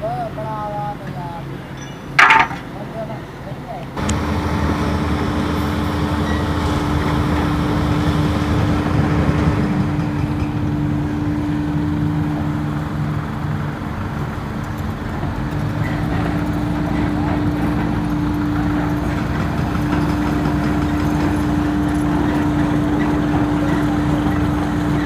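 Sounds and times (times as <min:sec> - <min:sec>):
heavy machinery engine running: 0:04.0 - 0:25.0.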